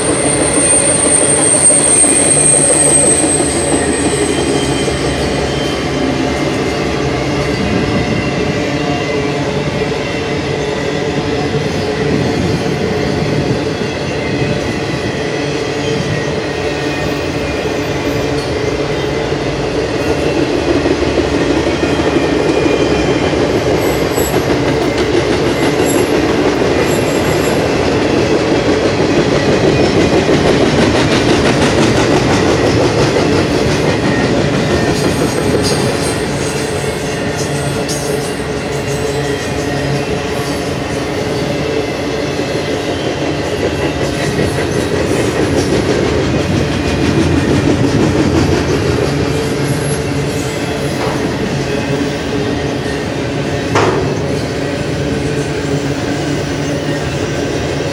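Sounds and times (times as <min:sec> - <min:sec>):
freight train rumbling on rails: 0:00.0 - 0:57.9.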